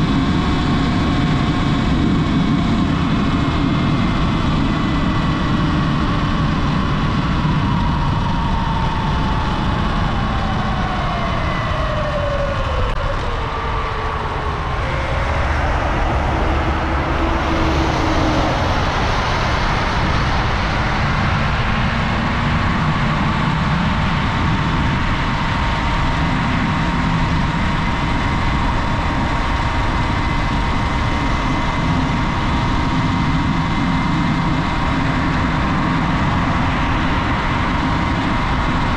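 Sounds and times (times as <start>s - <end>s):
low rumble: 0.0s - 38.9s.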